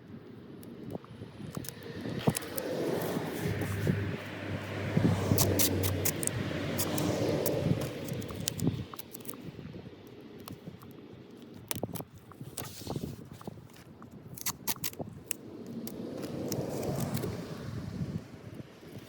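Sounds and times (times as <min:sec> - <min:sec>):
clicks and scrapes of hand work: 0:01.0 - 0:09.5, 0:10.4 - 0:17.5.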